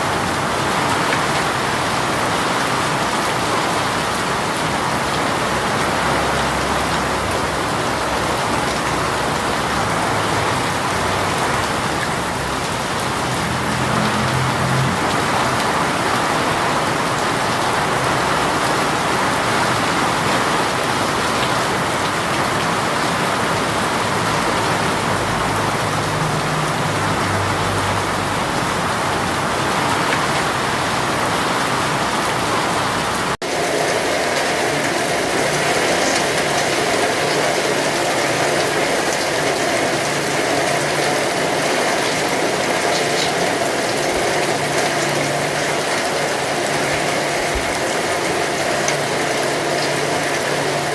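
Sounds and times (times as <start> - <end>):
heavy rain: 0.0 - 50.9
rattling mechanical rain sound: 0.0 - 50.9.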